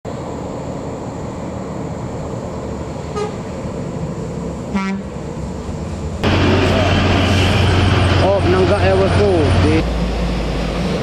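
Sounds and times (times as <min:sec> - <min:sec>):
truck engines rumbling: 0:00.1 - 0:11.0.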